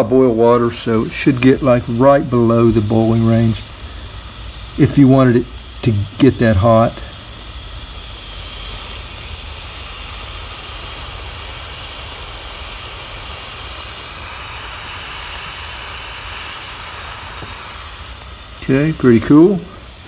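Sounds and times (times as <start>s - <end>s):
immersion heater hissing: 0.0s - 20.0s.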